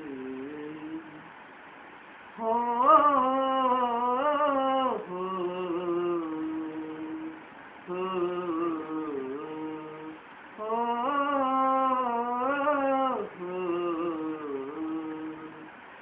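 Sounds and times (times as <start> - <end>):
man singing unaccompanied: 0.0 - 1.4, 2.3 - 15.8.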